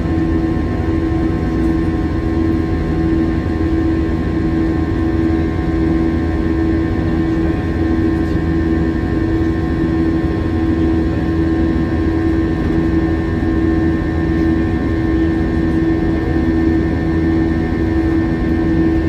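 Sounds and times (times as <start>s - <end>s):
jet engine drone in cabin: 0.0s - 19.0s.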